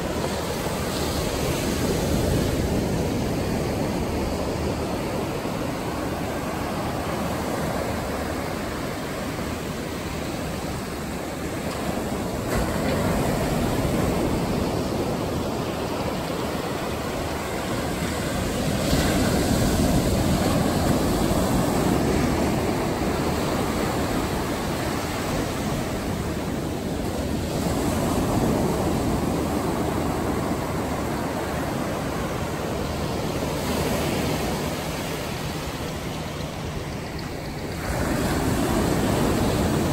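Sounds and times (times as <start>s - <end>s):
surf breaking on a beach: 0.0s - 39.9s.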